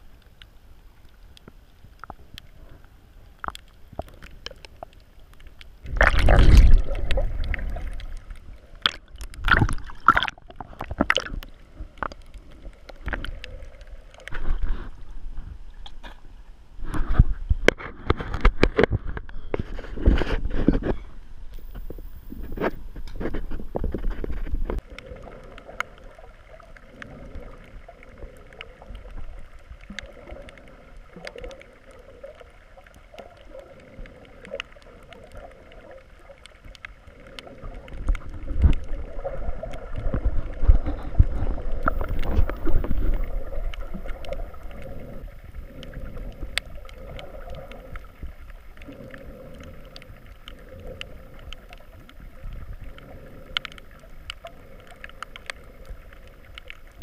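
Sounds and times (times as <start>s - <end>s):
faint clicks and crackles: 0.0s - 57.0s
low rumble of moving water: 0.0s - 57.0s
muffled underwater wash: 0.0s - 57.0s.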